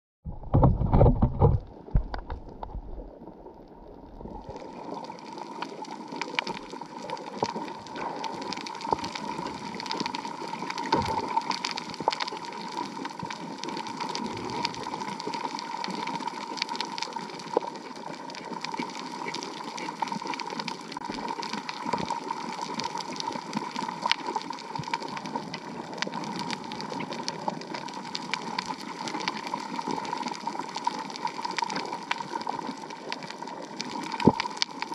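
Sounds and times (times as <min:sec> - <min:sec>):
crackle of small clicks underwater: 0:00.3 - 0:34.9
steady underwater hum: 0:00.3 - 0:34.9.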